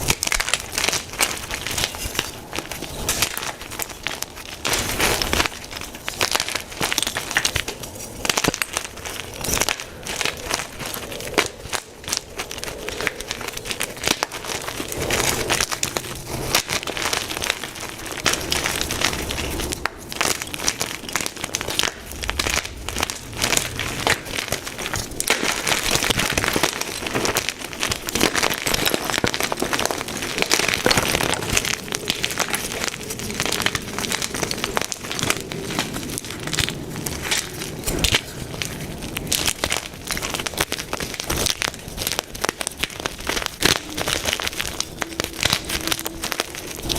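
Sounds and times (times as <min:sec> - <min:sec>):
chalk blocks crunching: 0:00.0 - 0:46.9.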